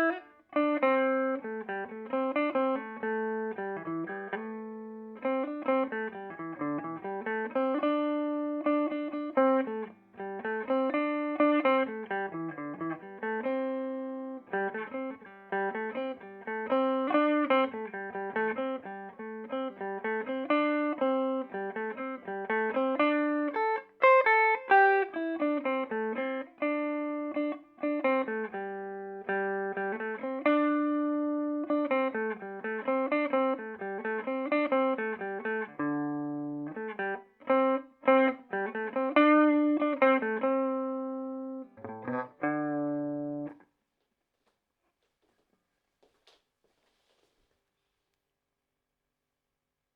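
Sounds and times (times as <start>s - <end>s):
clean electric guitar picked notes: 0.0s - 43.6s.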